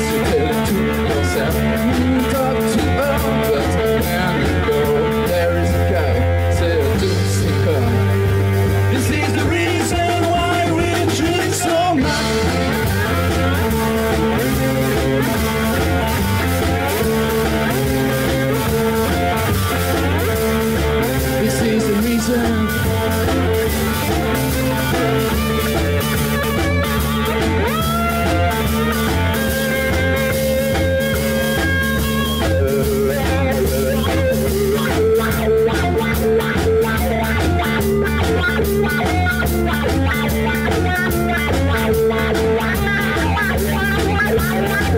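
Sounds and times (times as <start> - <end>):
drum kit: 0.0 - 44.9
electric bass: 0.0 - 44.9
lap steel guitar sliding lead: 0.0 - 44.9.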